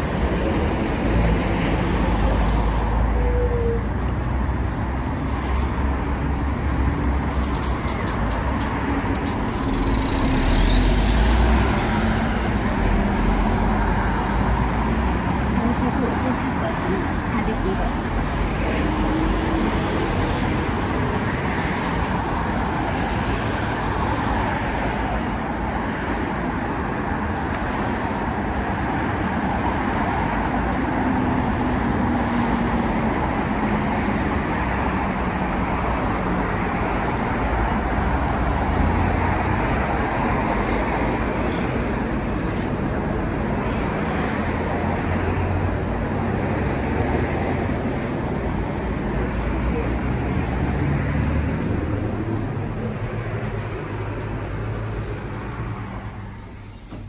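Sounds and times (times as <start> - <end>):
busy road traffic: 0.0 - 57.0.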